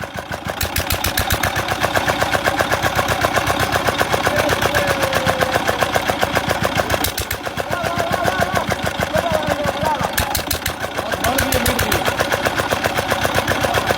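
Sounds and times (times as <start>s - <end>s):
diesel engine knocking: 0.0s - 13.9s.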